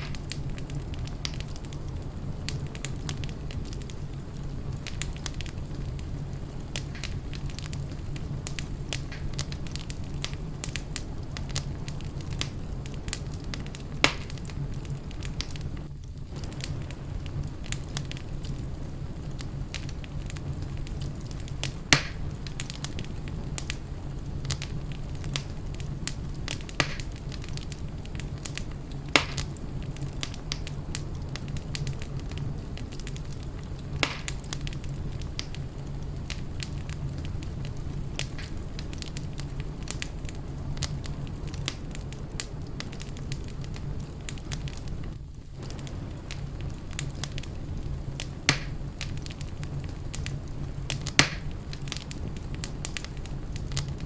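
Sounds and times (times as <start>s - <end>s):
sharp pops of fire: 0.0s - 54.0s
wood fire crackling: 0.0s - 54.0s.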